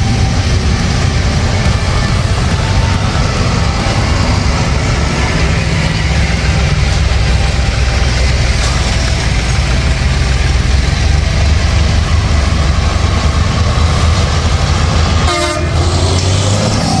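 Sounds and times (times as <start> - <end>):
diesel tractor engines rumbling: 0.0 - 17.0.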